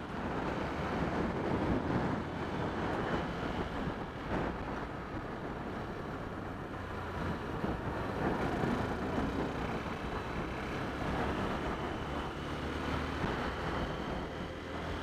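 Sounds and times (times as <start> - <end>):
road noise: 0.0 - 15.0
wind noise: 0.0 - 15.0.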